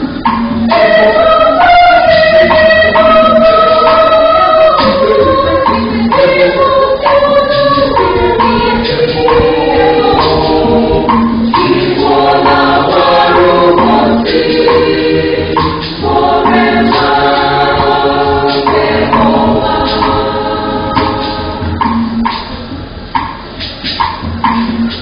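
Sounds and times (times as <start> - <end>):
church choir singing: 0.7 - 22.0.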